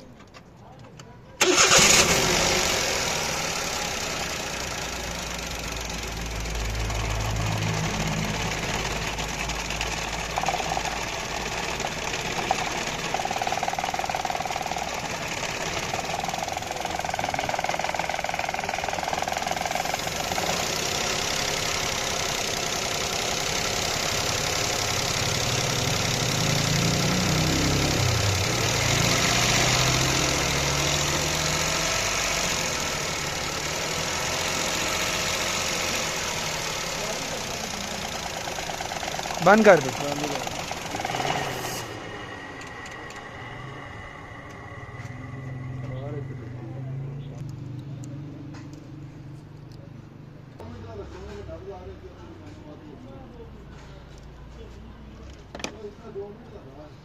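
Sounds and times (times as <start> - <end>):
car engine idling: 1.4 - 50.8.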